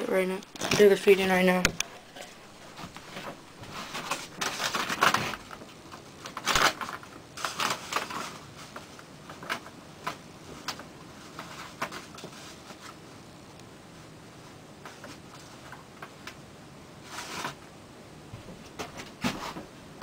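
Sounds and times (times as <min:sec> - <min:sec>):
handling rustling and scraping: 0:00.0 - 0:16.4, 0:17.0 - 0:17.7, 0:18.4 - 0:19.8.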